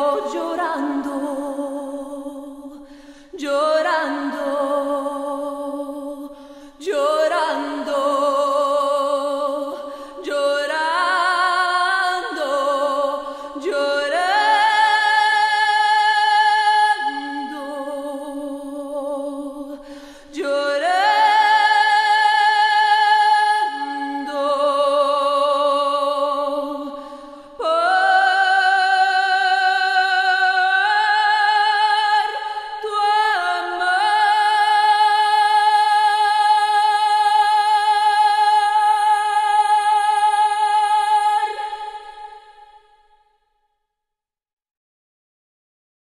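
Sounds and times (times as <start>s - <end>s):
woman singing unaccompanied: 0.0s - 43.0s.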